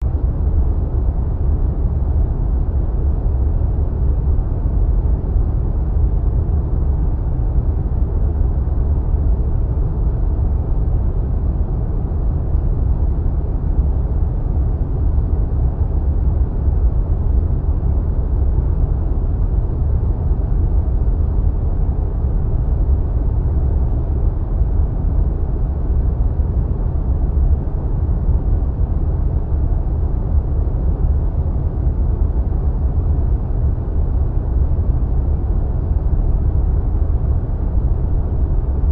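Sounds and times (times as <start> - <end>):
deep muffled wind rush: 0.0 - 38.9.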